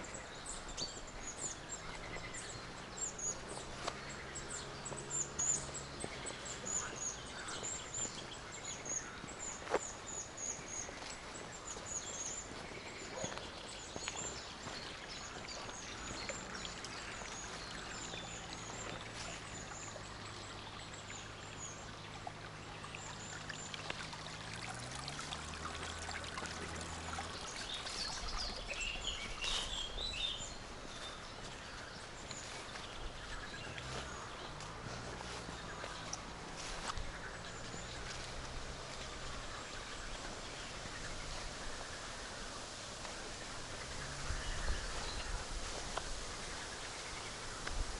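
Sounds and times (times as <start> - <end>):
bird song phrase: 0.0 - 23.9, 25.7 - 42.4, 43.4 - 45.5
small birds chirping: 0.0 - 47.9.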